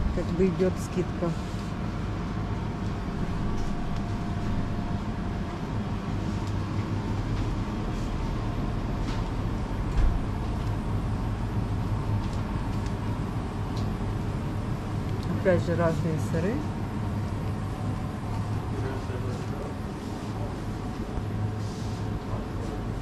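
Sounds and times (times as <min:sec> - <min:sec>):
refrigeration and ventilation hum: 0:00.0 - 0:23.0.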